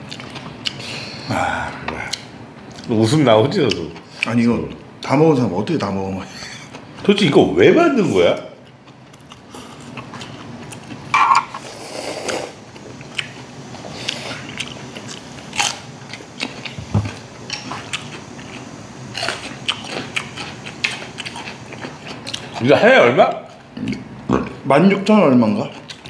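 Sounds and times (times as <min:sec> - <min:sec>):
people chewing: 0:00.0 - 0:04.8, 0:05.8 - 0:07.2, 0:08.6 - 0:26.0.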